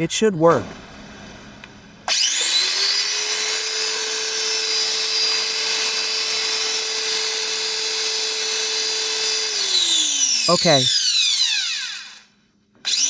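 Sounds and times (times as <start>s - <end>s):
electric motor whining: 2.1s - 13.0s.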